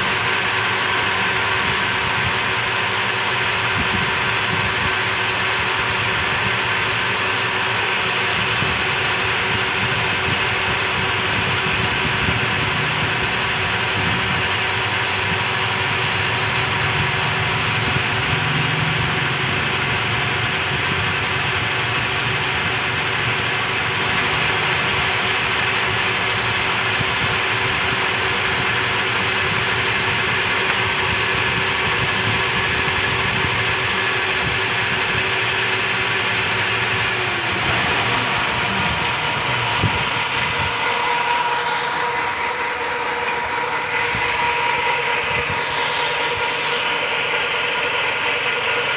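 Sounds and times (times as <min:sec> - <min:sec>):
metal lathe droning: 0:00.0 - 0:48.9.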